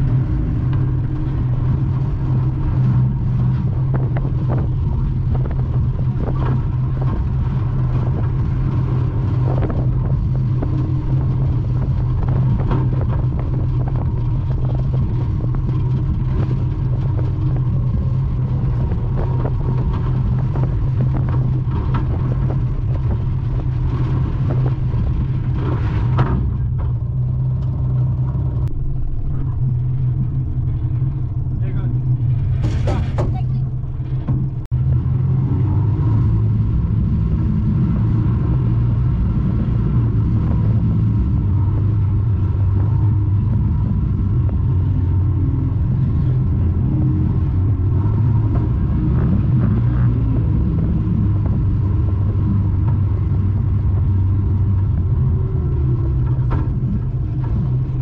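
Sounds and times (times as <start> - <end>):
bodywork rattles and knocks: 0.0 - 28.7, 29.7 - 34.8, 38.4 - 58.0
car engine running at low revs: 0.0 - 58.0.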